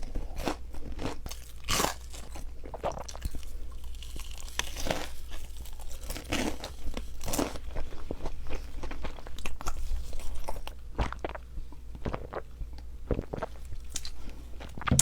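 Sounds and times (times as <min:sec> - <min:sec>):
person chewing pizza: 0:00.0 - 0:15.0.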